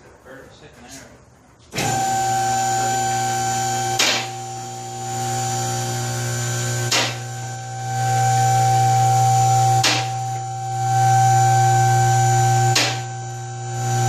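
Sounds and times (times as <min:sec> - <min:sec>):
hydraulic pump motor humming: 0:01.7 - 0:14.0.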